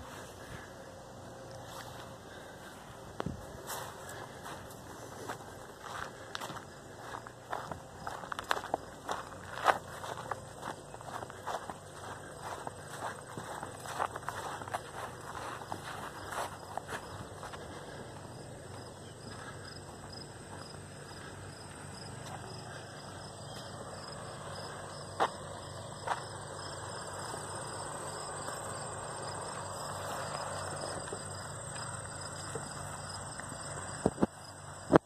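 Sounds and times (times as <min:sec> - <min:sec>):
insects trilling: 0:03.6 - 0:35.0.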